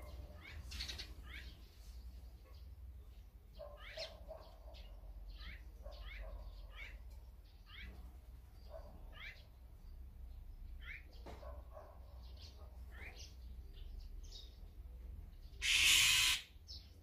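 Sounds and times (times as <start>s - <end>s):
magpies chirping: 0.0s - 17.0s.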